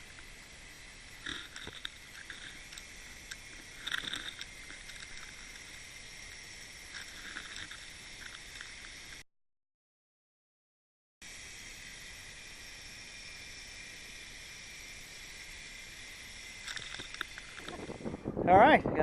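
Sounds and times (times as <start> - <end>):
steady water hiss: 0.0 - 9.2, 11.2 - 19.0.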